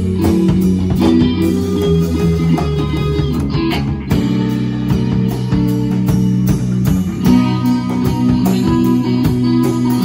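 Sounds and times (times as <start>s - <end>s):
amplified electric guitars: 0.0s - 10.0s
drum kit: 0.0s - 10.0s.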